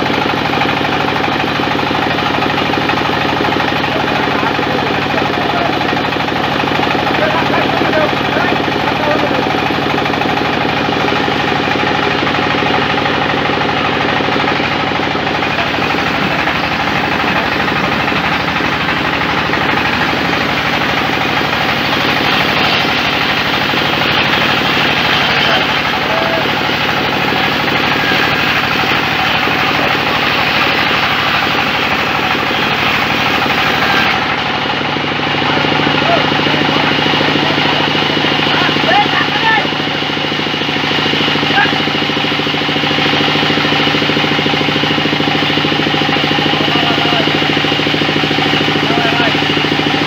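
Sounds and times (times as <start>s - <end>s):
band saw cutting log: 0.0s - 50.0s.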